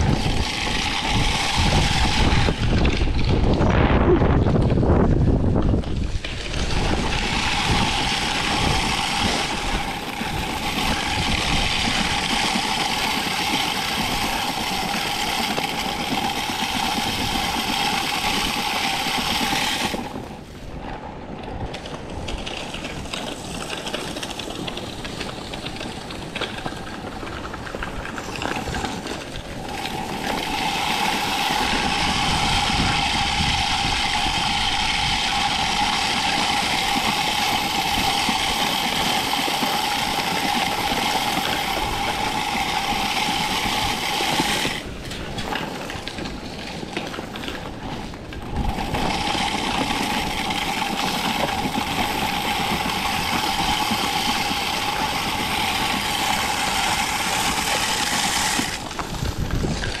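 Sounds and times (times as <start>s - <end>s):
spreader spinner whining: 0.0s - 20.6s, 21.8s - 60.0s.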